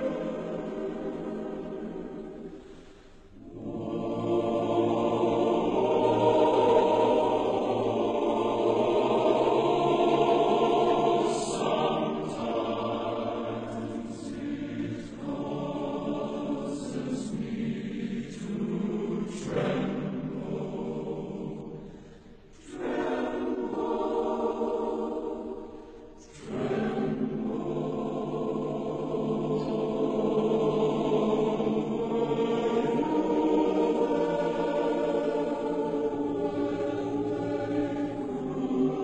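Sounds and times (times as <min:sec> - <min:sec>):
choir singing held chords: 0:00.0 - 0:39.0
music: 0:00.0 - 0:39.0.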